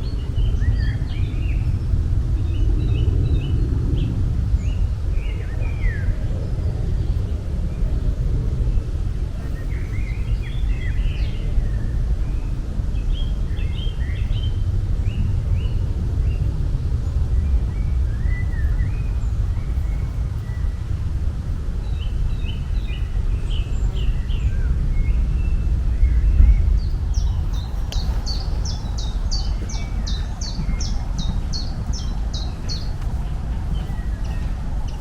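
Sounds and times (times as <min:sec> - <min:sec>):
low outdoor rumble: 0:00.0 - 0:35.0
small birds chirping: 0:00.0 - 0:35.0.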